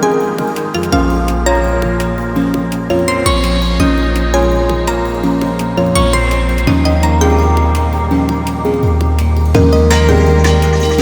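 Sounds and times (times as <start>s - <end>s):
mellow new-age music: 0.0s - 11.0s.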